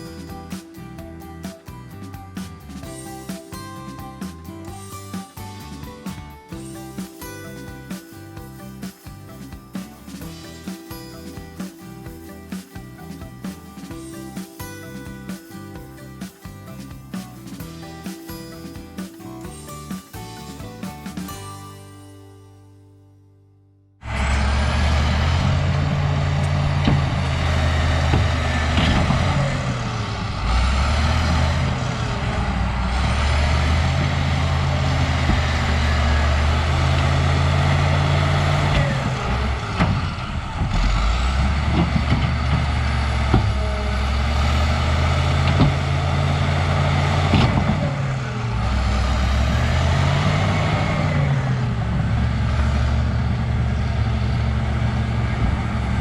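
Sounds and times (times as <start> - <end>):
bulldozer diesel engine under load: 0.0 - 21.2, 24.0 - 56.0.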